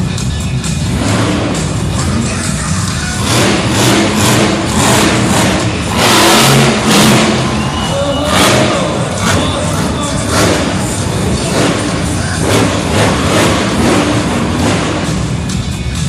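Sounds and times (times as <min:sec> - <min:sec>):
monster truck engine revving: 0:00.0 - 0:16.0
music: 0:00.0 - 0:16.0.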